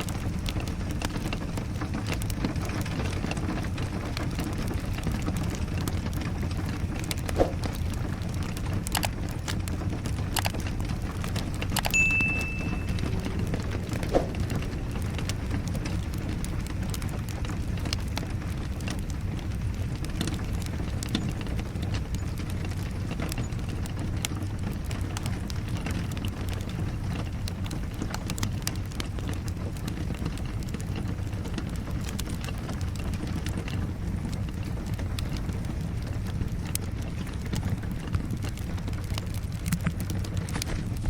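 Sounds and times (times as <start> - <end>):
falling rain: 0.0 - 41.0
wood fire crackling: 0.0 - 41.0.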